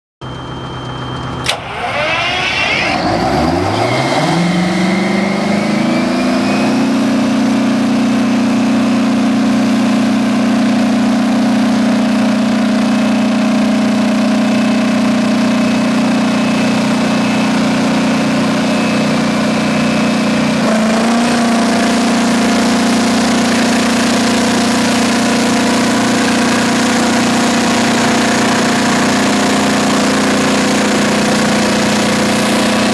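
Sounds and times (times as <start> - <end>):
diesel generator engine running: 0.2 - 32.9.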